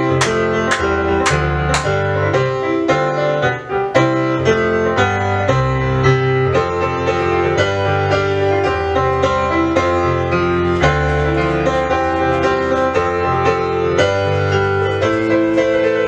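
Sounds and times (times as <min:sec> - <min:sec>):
instrumental piano music: 0:00.0 - 0:16.0.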